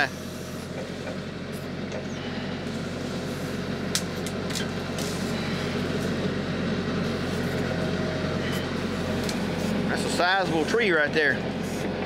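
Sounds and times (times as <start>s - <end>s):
hydraulics moving bucket: 0.0s - 6.3s, 6.9s - 12.0s
tractor diesel engine running: 0.0s - 12.0s.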